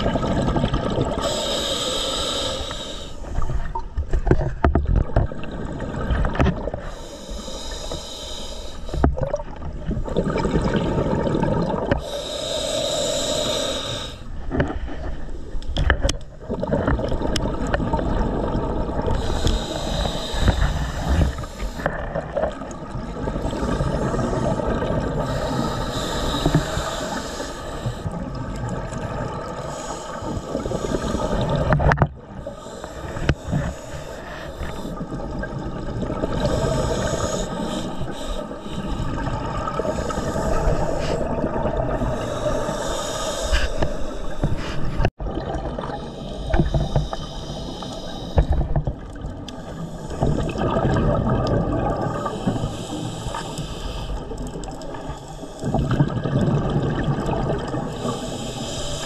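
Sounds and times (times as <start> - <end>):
gurgle of exhaled bubbles: 0.0 - 1.8, 3.3 - 7.0, 8.9 - 13.6, 15.8 - 59.0
regulator hiss underwater: 0.1 - 3.7, 5.2 - 15.8, 17.4 - 59.0.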